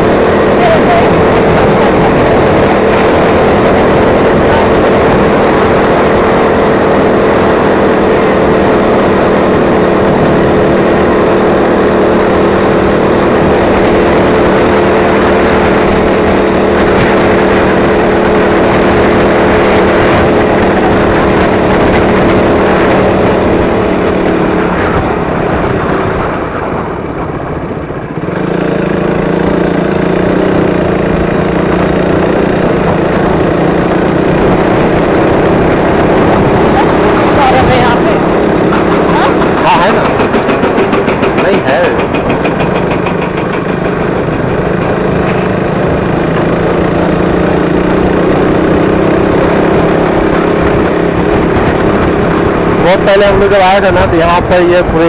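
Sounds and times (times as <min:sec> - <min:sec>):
loud rushing noise: 0:00.0 - 0:55.0
motorcycle engine running: 0:00.0 - 0:55.0.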